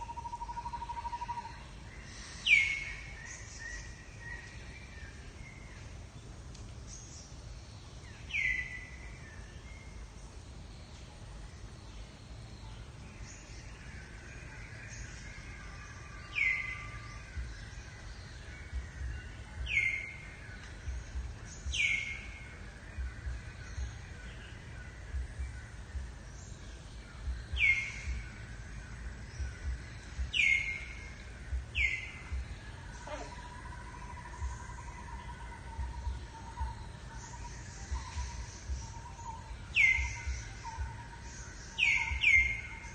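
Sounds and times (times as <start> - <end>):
bird chirping: 0.0 - 42.9
outdoor background noise: 0.0 - 42.9.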